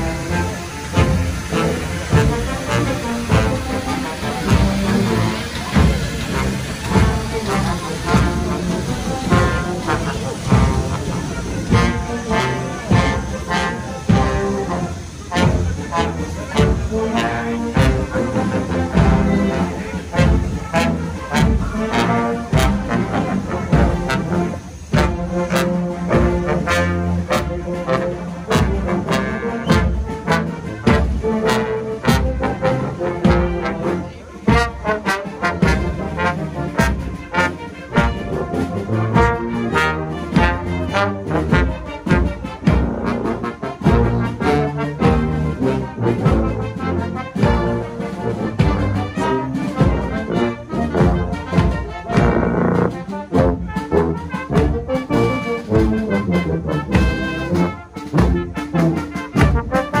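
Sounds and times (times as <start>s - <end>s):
marching brass band playing: 0.0s - 60.0s
snare drum beat: 0.9s - 60.0s.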